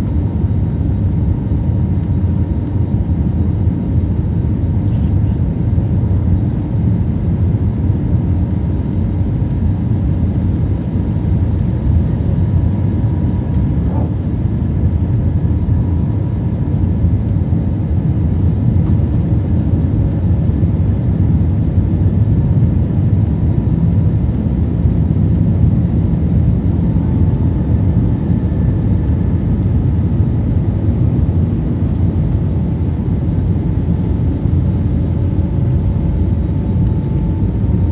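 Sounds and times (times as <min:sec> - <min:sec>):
engines and rushing air in cabin: 0:00.0 - 0:37.9.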